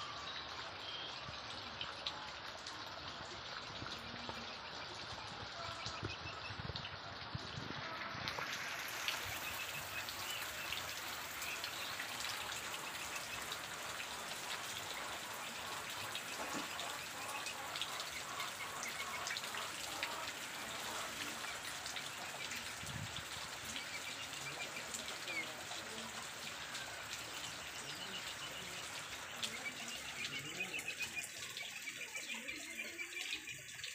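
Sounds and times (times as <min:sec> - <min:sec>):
rain and running water: 0:00.0 - 0:33.9.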